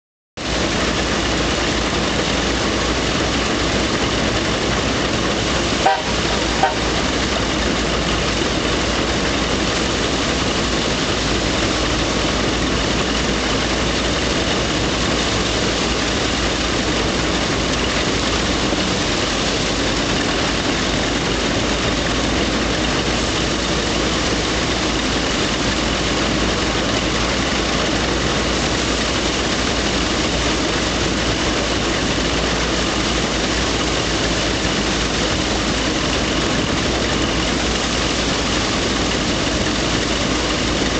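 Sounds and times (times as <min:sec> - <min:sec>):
threshing machine running: 0:00.4 - 0:40.9.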